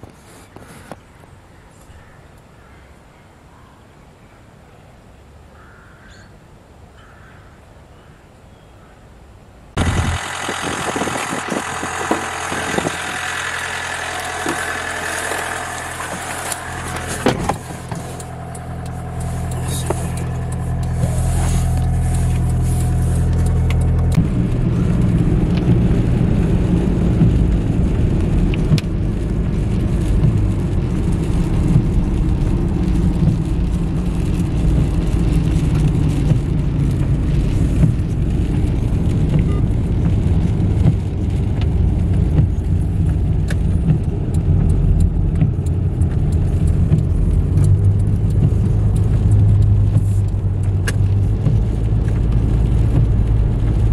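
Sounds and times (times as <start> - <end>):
car driving on road rumble: 0.0 - 53.9
car engine idling: 9.8 - 53.9.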